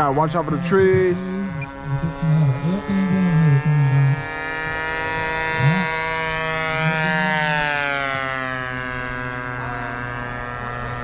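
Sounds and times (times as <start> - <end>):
model airplane propeller engine: 0.0 - 11.0.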